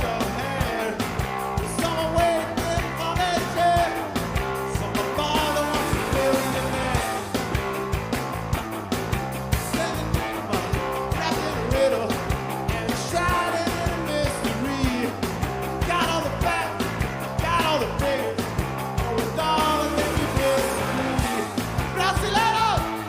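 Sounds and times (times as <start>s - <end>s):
person singing: 0.0s - 7.5s, 9.5s - 23.0s
rock band playing live: 0.0s - 23.0s.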